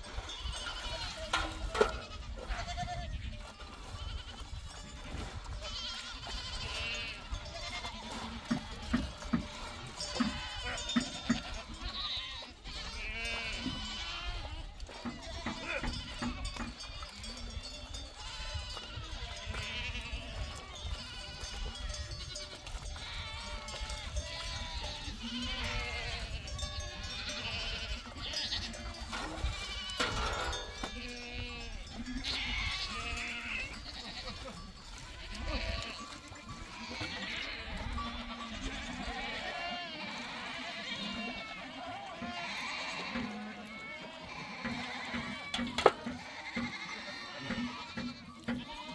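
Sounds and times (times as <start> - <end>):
goats bleating: 0.0 - 48.9.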